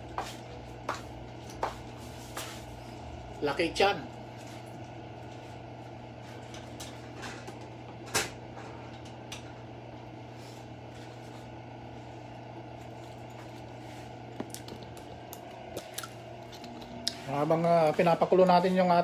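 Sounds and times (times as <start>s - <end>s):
kitchen background hum: 0.0s - 19.0s.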